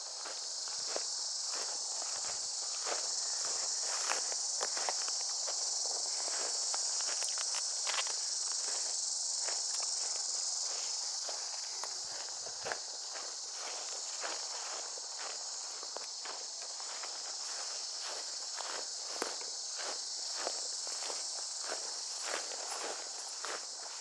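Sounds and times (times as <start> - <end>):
footsteps crunching on forest path: 0.0 - 24.0
high-pitched insect drone: 0.0 - 24.0.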